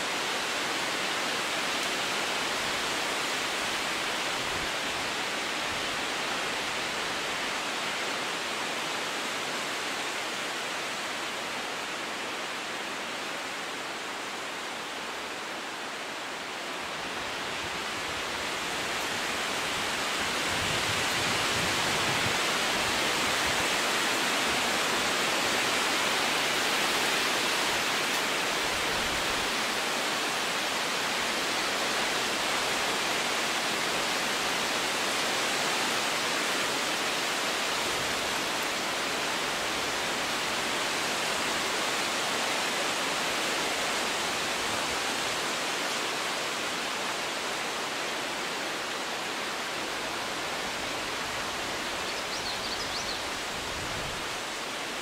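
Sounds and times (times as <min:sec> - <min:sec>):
wind rustling tree leaves: 0:00.0 - 0:55.0.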